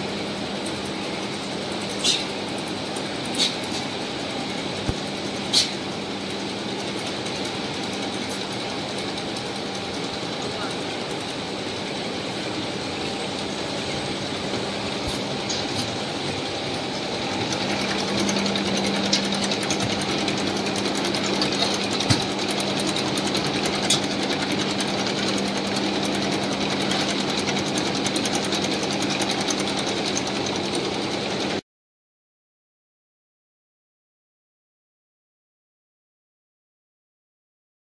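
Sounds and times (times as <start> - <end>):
constant hum: 0.0 - 30.4
textile machinery running: 0.0 - 31.6.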